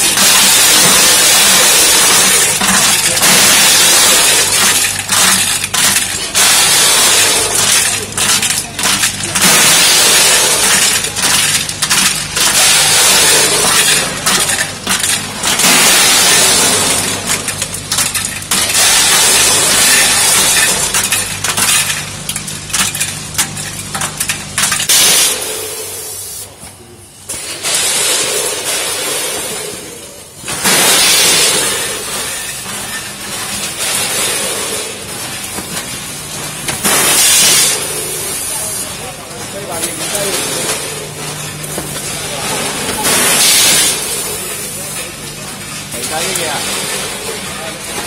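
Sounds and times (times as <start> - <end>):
ice cubes clattering on metal: 0.0 - 25.8, 27.4 - 48.0
steady machine hum: 0.0 - 48.0.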